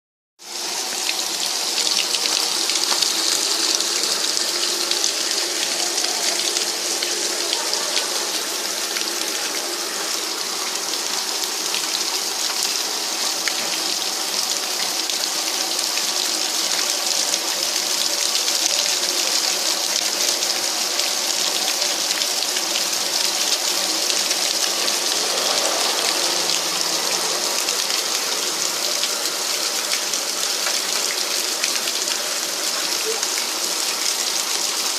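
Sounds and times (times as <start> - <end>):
waterfall splashing: 0.4 - 34.9.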